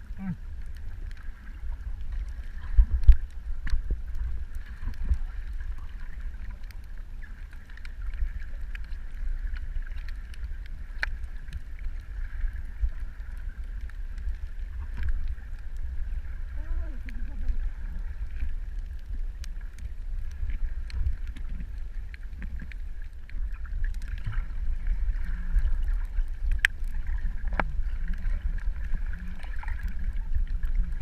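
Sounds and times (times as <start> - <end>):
faint steady hum: 0.0 - 31.0
sharp clicks and crackles: 0.0 - 31.0
underwater rumble: 0.0 - 31.0.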